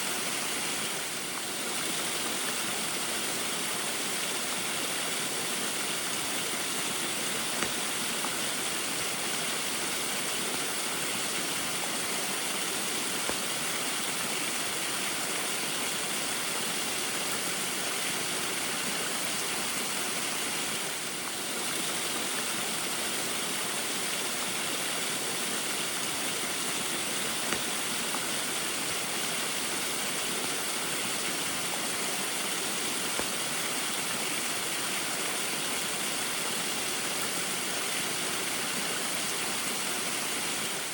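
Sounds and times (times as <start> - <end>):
waterfall rushing and splashing: 0.0 - 40.9.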